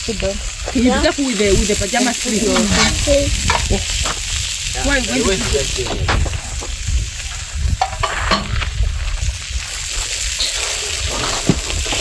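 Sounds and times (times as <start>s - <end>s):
meat sizzling over a campfire: 0.0s - 12.0s.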